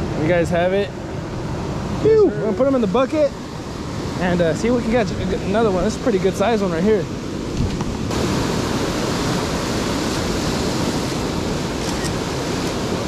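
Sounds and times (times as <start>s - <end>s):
surf breaking over rocks: 1.9s - 13.0s.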